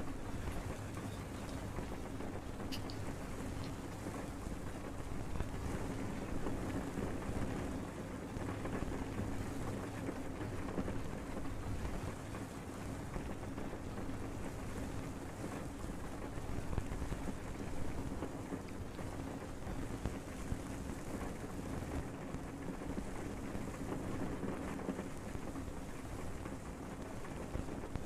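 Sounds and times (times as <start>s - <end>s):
faint low hum: 0.0s - 28.0s
muffled rushing water: 0.0s - 28.0s.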